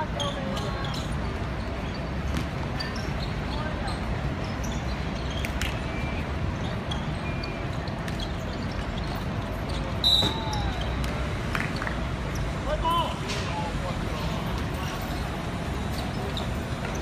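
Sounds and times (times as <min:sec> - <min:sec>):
sneakers squeaking: 0:00.0 - 0:13.1, 0:14.2 - 0:17.0.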